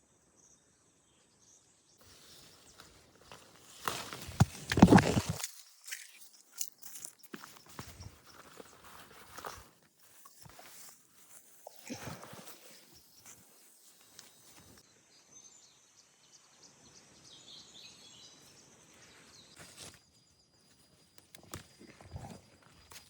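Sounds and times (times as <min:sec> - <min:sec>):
faint rural outdoor ambience: 0:00.0 - 0:23.0.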